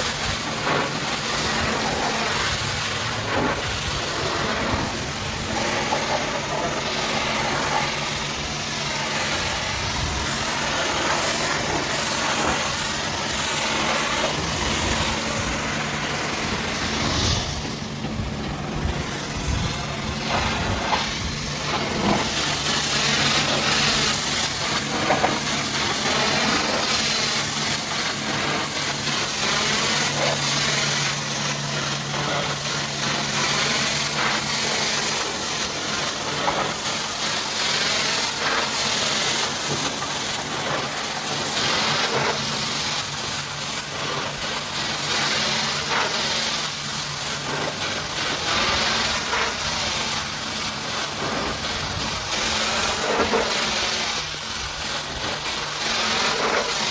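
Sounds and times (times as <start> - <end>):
pressure washer jet spraying: 0.0 - 56.9
pump humming: 0.0 - 56.9.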